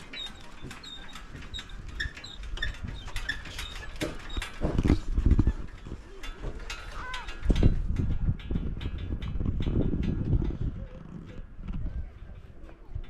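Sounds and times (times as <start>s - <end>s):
footbridge creaking and clicking: 0.0s - 13.0s.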